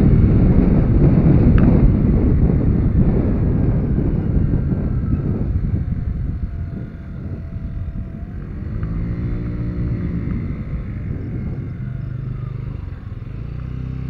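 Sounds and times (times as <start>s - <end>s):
scooter engine running: 0.0s - 14.0s
wind rumble on microphone: 0.0s - 14.0s.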